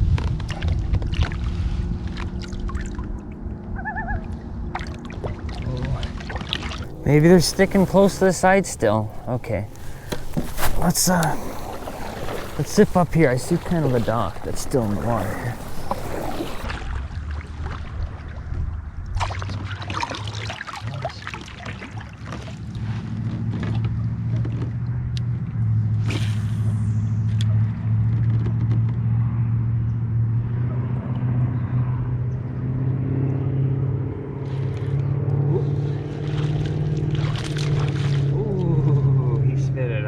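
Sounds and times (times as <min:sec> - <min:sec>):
small boat motor humming: 0:00.0 - 0:16.7, 0:22.0 - 0:40.0.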